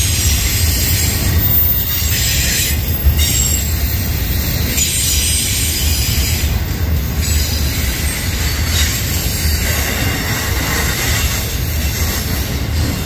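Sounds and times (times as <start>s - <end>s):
freight train cars rolling: 0.0s - 13.0s
wheel squeal: 0.0s - 13.0s.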